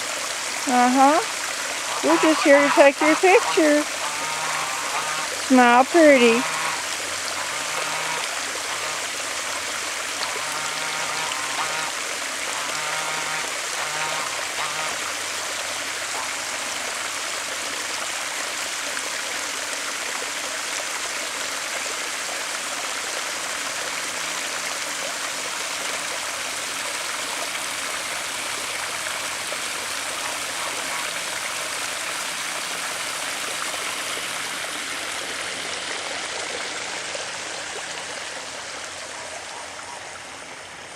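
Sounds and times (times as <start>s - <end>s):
water rushing over spillway: 0.0s - 40.9s.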